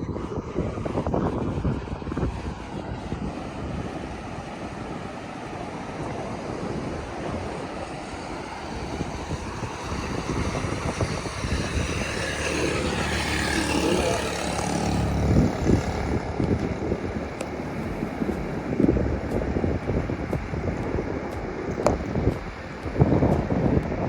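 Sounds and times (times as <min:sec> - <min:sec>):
wind buffeting microphone: 0:00.0 - 0:24.0
engine running: 0:02.6 - 0:24.0.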